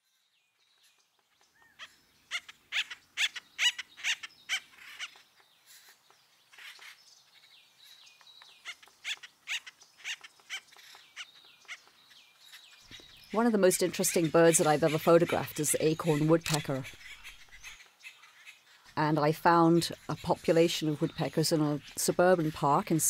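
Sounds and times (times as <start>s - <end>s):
woodpeckers calling: 0.6s - 23.0s.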